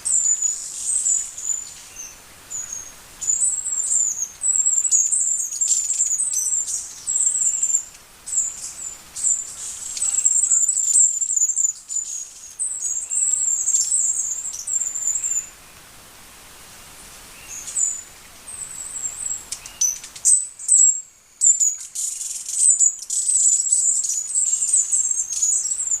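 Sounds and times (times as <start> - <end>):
hummingbird twittering chips: 0.0 - 15.5, 17.4 - 26.0.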